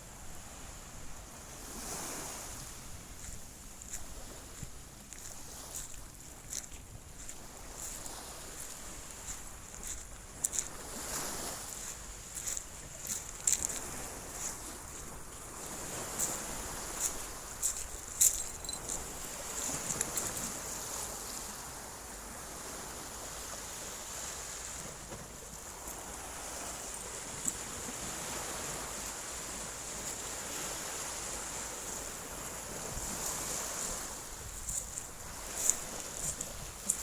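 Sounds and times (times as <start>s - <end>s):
small waves washing on beach: 0.0s - 37.0s.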